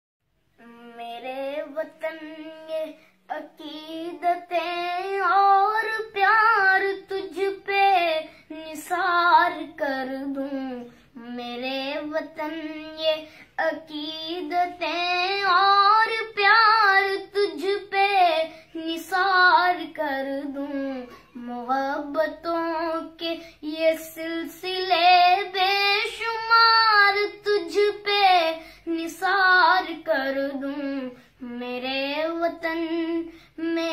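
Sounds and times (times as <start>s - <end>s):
child singing: 0.6s - 33.9s.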